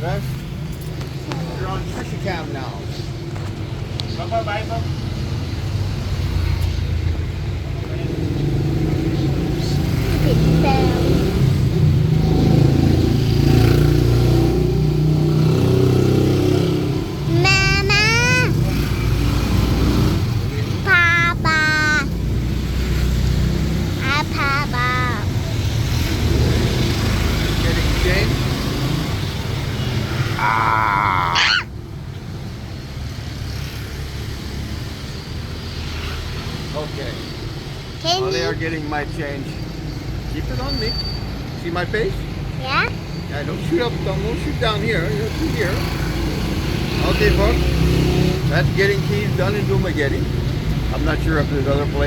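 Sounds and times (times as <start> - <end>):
street traffic rumble: 0.0 - 52.0
vehicles passing by: 0.0 - 52.0.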